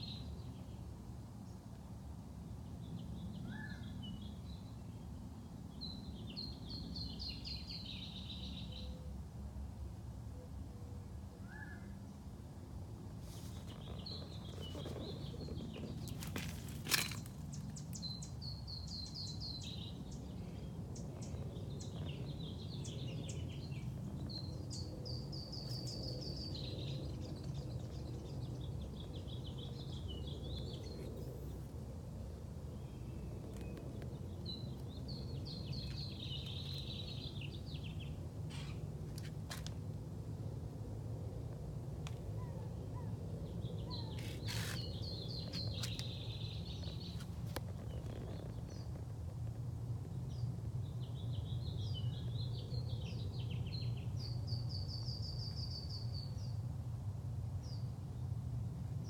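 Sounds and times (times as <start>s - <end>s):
songbirds chirping and trilling: 0.0s - 56.8s.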